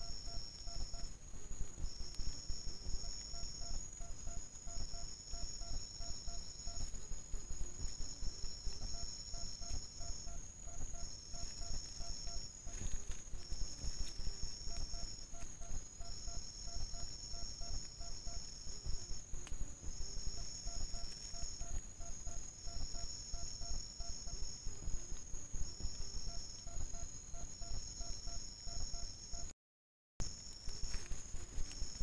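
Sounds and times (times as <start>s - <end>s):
insects trilling: 0.0s - 29.5s, 30.2s - 32.0s.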